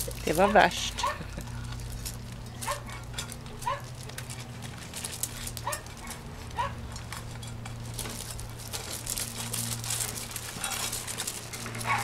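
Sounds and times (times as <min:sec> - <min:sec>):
paws scraping gravel and bowl: 0:00.0 - 0:12.0
steady low hum: 0:00.0 - 0:12.0.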